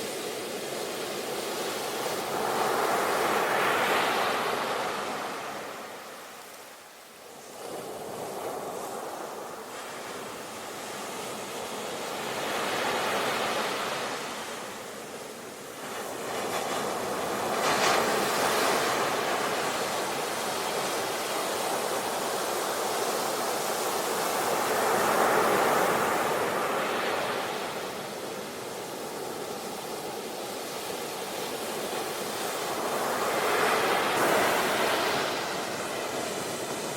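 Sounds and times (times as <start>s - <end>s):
sea waves breaking on shore: 0.0s - 36.9s.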